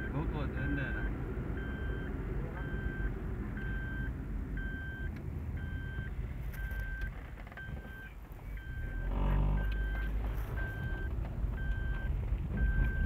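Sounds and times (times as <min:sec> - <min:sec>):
car engine and road rumble: 0:00.0 - 0:13.0
electronic warning beep: 0:00.0 - 0:13.0.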